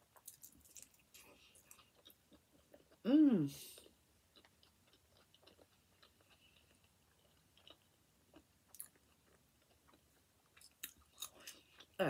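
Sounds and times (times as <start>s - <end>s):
faint chewing clicks: 0.0s - 3.0s, 3.8s - 12.0s.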